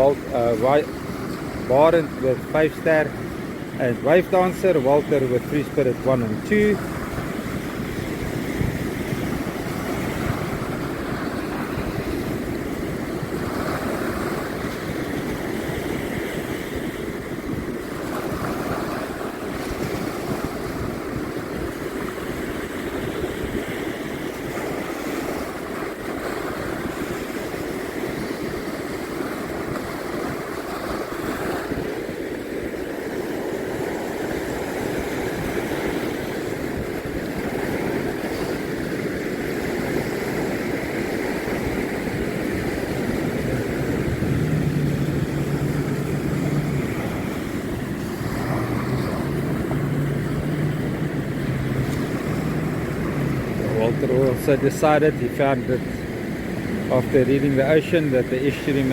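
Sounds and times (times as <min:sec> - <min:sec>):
surf breaking: 0:00.0 - 0:58.9
wind noise on microphone: 0:05.0 - 0:58.9.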